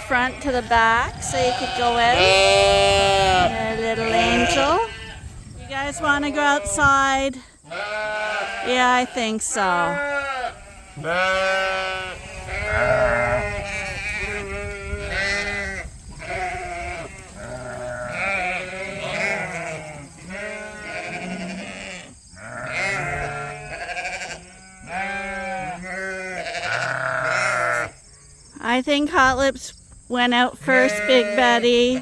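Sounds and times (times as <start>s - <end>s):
sheep bleating: 0.0s - 28.0s, 30.6s - 32.0s.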